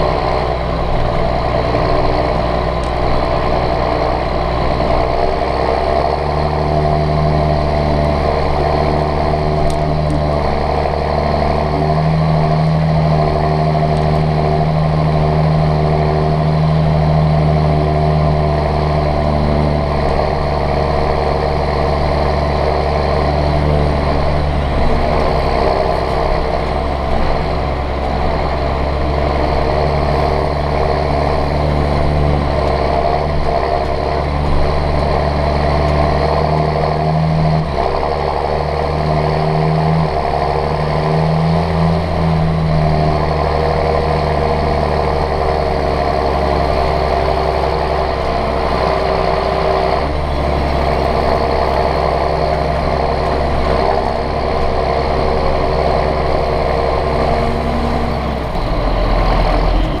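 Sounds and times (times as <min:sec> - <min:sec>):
tractor diesel engine running: 0:00.0 - 1:00.0.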